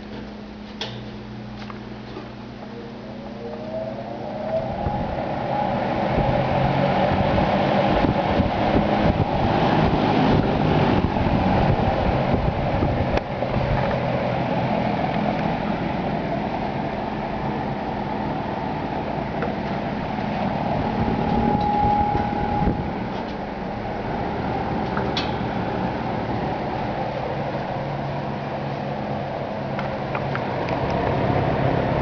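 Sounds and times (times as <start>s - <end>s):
low motor hum: 0.0s - 32.0s
box fan air rushing: 0.5s - 32.0s.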